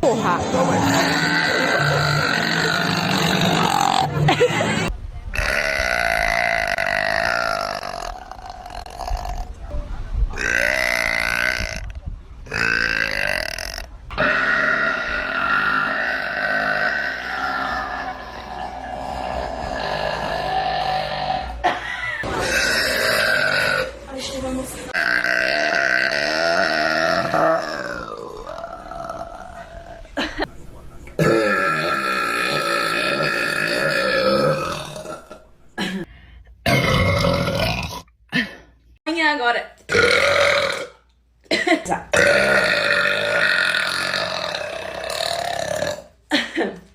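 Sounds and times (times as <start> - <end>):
woman belching loudly: 0.4 - 4.4, 5.3 - 9.6, 10.3 - 24.0, 24.9 - 30.5, 31.2 - 36.1, 36.7 - 38.1, 39.9 - 41.0, 42.1 - 46.2
woman burping: 0.7 - 9.5, 10.4 - 24.0, 24.9 - 30.5, 31.2 - 38.7, 39.9 - 46.8.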